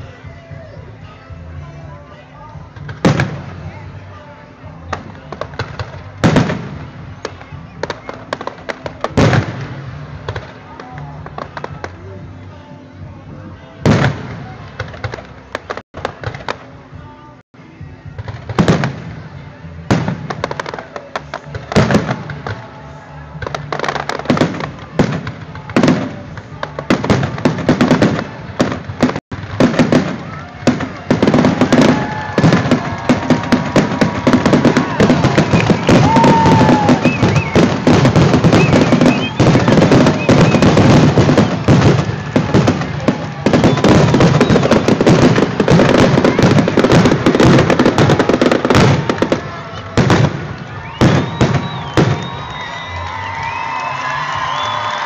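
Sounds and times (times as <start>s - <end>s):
fireworks bangs: 2.7s - 12.2s, 13.8s - 17.0s, 18.0s - 55.0s.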